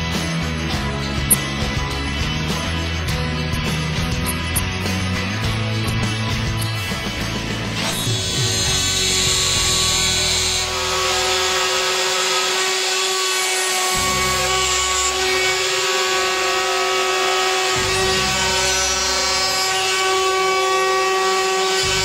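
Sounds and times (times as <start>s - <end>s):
router whining: 0.0s - 22.0s.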